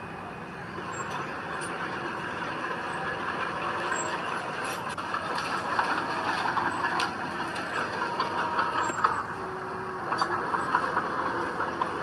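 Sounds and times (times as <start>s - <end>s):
heavy diesel machinery running: 0.0s - 12.0s.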